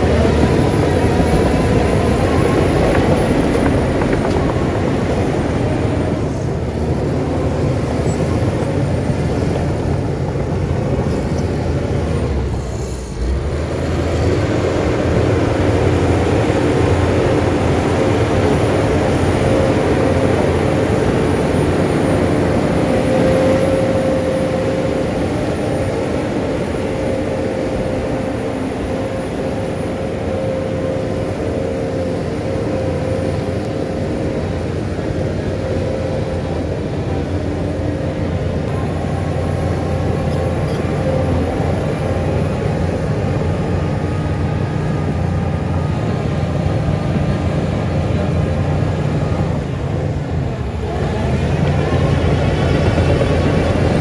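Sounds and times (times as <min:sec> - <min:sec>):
diesel engine running: 0:00.0 - 0:54.0
steady machine whine: 0:00.0 - 0:54.0.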